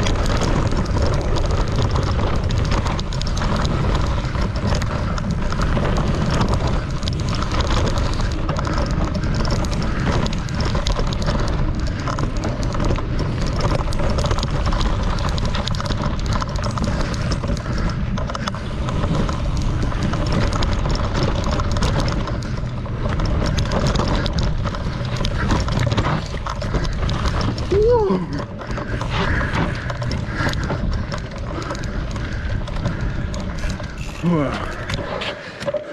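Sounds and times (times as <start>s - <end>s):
bike rattles and knocks: 0.0s - 35.9s
tyres rumbling over dirt: 0.0s - 35.9s
wind buffeting microphone: 0.0s - 35.9s.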